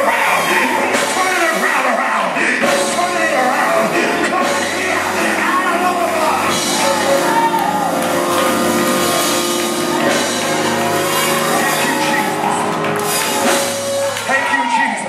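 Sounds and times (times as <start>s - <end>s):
live band with held chords: 0.0s - 14.8s.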